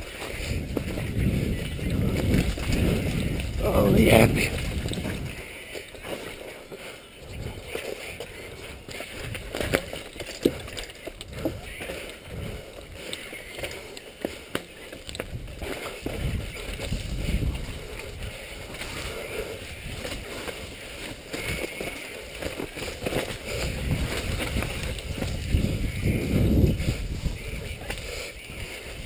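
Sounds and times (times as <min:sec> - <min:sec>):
mountain bike rattling over rocks: 0:00.0 - 0:29.0
tyre and wind rumble: 0:00.0 - 0:29.0.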